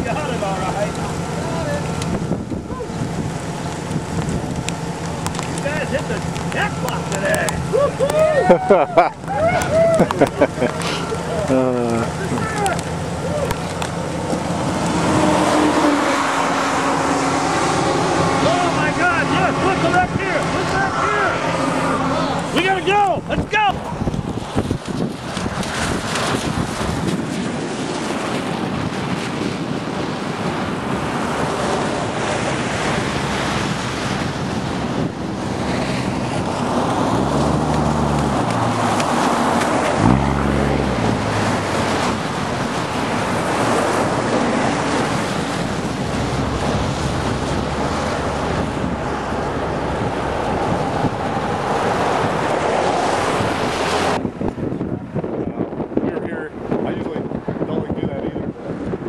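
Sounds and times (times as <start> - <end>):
low hum: 0.0 - 27.0, 31.0 - 54.3
wind buffeting microphone: 0.0 - 59.0.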